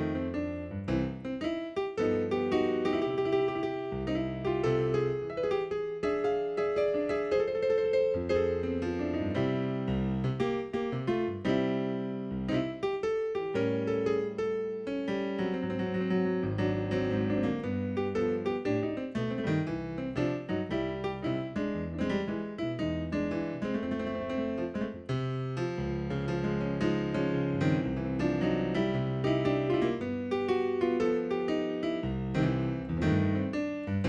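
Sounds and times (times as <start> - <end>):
digital piano chords: 0.0 - 34.0.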